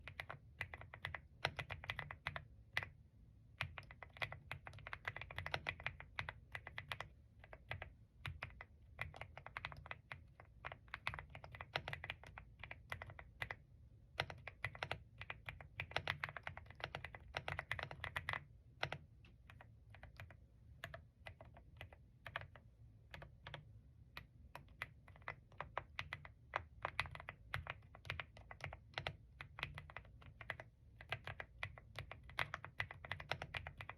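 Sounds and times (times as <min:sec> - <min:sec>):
mechanical keyboard typing: 0:00.0 - 0:03.0, 0:03.6 - 0:33.9.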